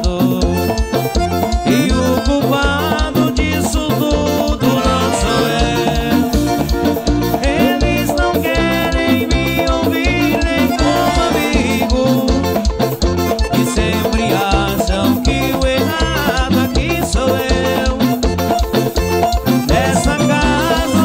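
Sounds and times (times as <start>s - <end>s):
live band dance music: 0.0s - 21.0s.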